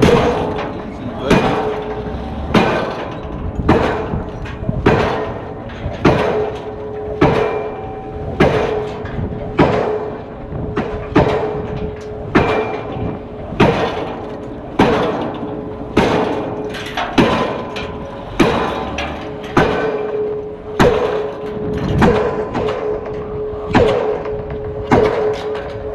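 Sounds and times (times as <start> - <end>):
pile hammer striking steel: 0.0 - 25.9
steady ringing tone: 0.0 - 25.9.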